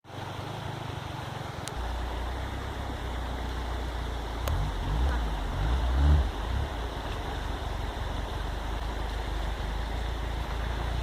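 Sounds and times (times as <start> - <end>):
car engine low rumble: 0.1 - 11.0.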